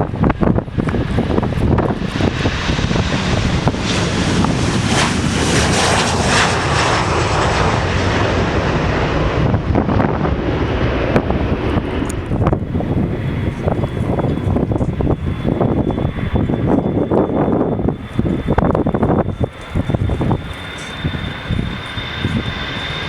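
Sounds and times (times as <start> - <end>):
airplane engine passing by: 0.0 - 23.0
wind buffeting microphone: 0.0 - 23.0.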